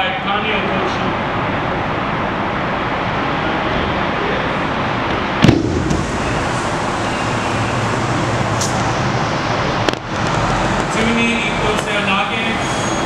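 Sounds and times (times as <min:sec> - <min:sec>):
room noise hiss: 0:00.0 - 0:13.0.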